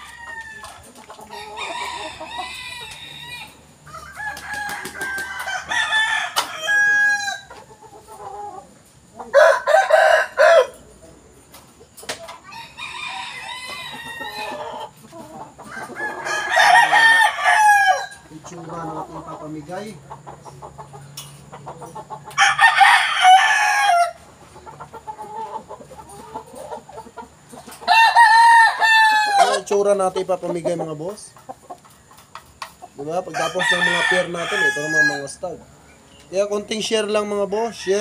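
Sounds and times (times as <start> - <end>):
roosters crowing: 0.0 - 11.4, 12.2 - 38.0
chickens clucking: 0.0 - 38.0.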